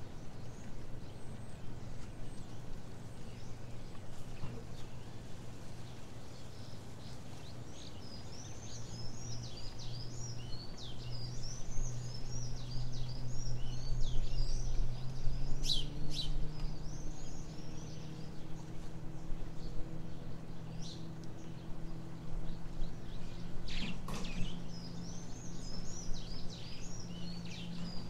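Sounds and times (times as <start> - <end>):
boat engine drone: 0.0 - 28.0
small birds twittering: 0.0 - 28.0.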